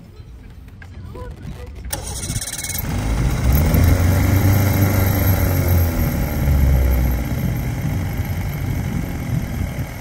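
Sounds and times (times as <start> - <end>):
engine idling: 1.9 - 10.0.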